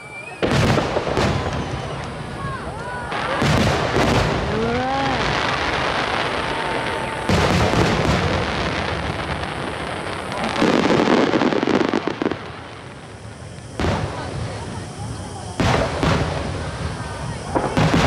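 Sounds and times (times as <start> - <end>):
firework crackling: 0.0 - 18.0
firework booms: 0.3 - 18.0.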